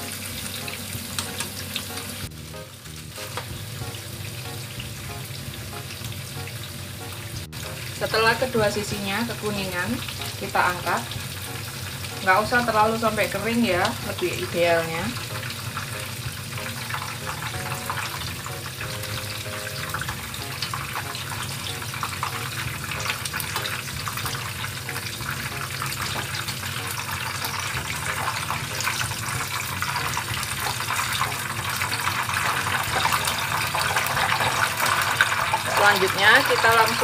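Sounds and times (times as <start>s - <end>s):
oil sizzling and crackling: 0.0s - 37.0s.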